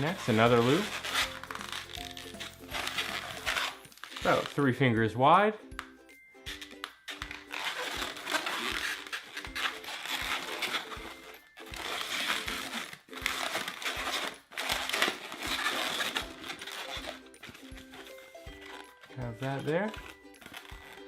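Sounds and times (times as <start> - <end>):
balloon squeaking while twisted: 0.0 - 4.7, 6.4 - 21.0
background music with steady beat: 0.0 - 21.0.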